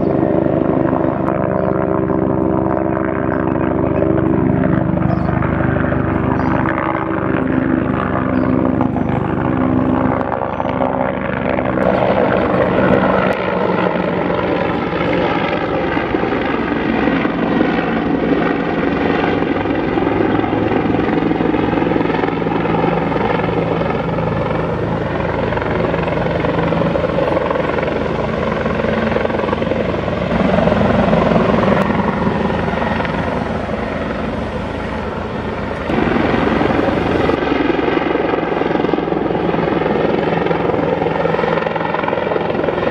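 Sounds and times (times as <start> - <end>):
helicopter rotor beating: 0.0 - 42.9.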